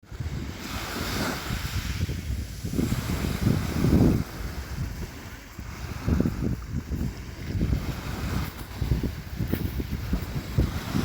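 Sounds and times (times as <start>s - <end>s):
sea waves splashing: 0.0s - 11.0s
wind buffeting microphone: 0.0s - 11.0s.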